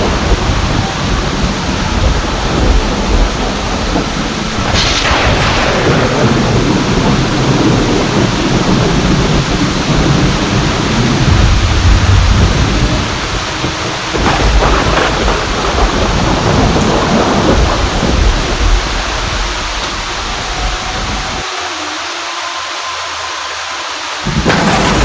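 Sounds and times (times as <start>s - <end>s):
rolling thunder rumbling: 0.0s - 21.5s, 24.2s - 25.0s
heavy rain falling: 0.0s - 25.0s.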